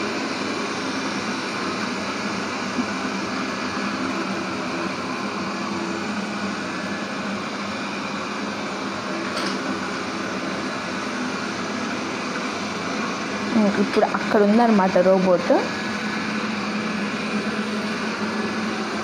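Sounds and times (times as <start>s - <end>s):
robot vacuum cleaner whirring: 0.0s - 19.0s.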